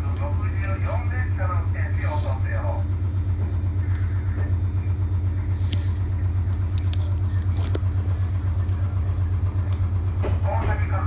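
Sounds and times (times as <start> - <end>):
electric train low hum: 0.0 - 11.0.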